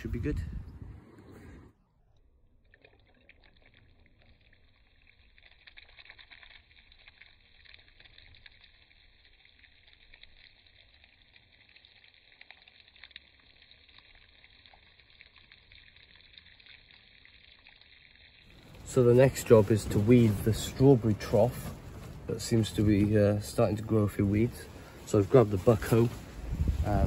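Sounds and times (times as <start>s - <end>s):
water sprinkling onto soil: 3.2s - 27.0s.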